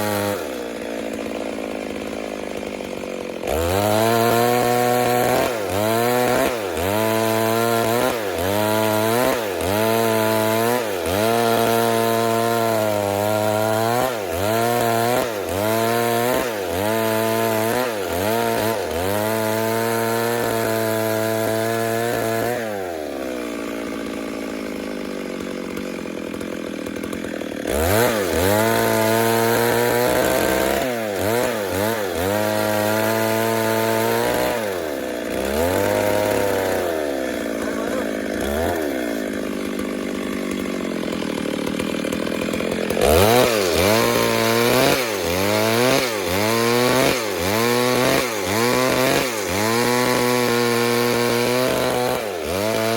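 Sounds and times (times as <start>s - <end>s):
chainsaw cutting and idling: 0.0s - 52.9s.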